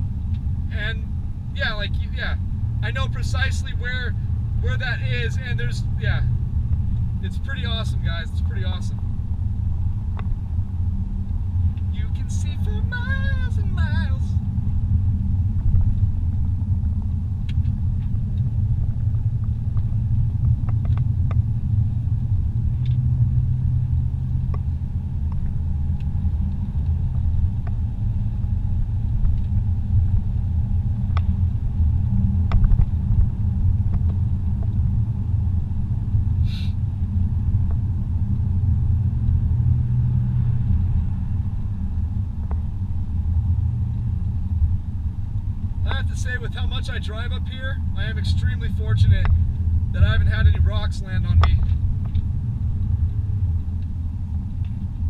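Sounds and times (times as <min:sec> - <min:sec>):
car driving rumble from inside: 0:00.0 - 0:55.0.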